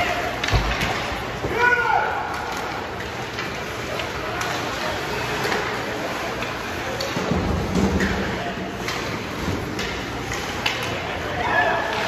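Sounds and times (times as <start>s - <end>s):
hockey sticks and puck clacking: 0.0s - 12.0s
people talking: 0.0s - 12.0s
skating and crowd noise: 0.0s - 12.0s.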